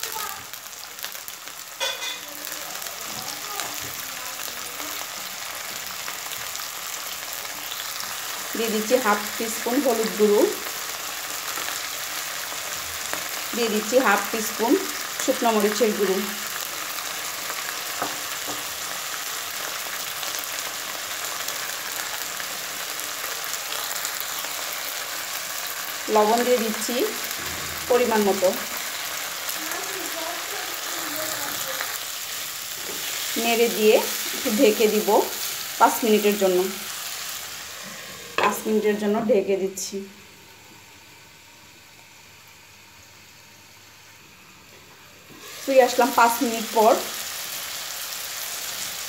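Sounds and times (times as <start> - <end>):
vegetables sizzling in oil: 0.0 - 49.0.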